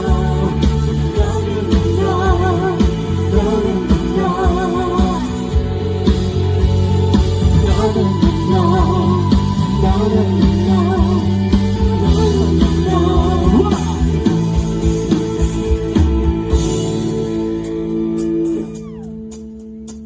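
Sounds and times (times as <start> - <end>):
drums: 0.0 - 20.0
live band playing pop song: 0.0 - 20.0.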